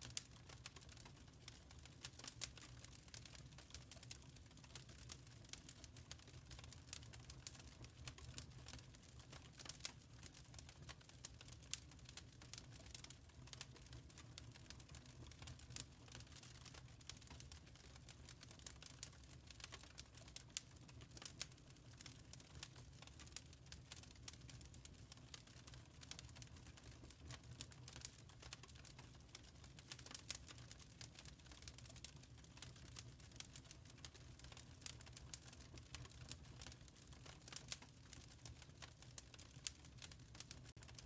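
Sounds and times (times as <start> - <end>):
fire crackling: 0.0 - 41.0.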